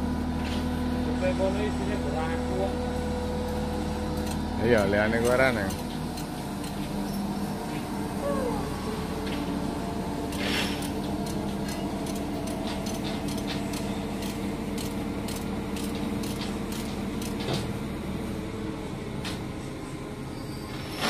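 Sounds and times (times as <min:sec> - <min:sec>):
heavy machinery engine running: 0:00.0 - 0:21.0.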